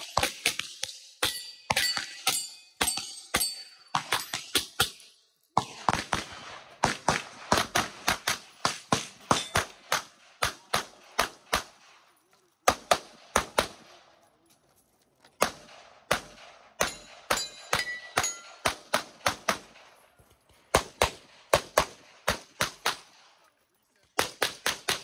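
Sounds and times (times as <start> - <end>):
pistol shots: 0.0 - 14.2, 15.4 - 20.0, 20.7 - 23.3, 24.2 - 25.0.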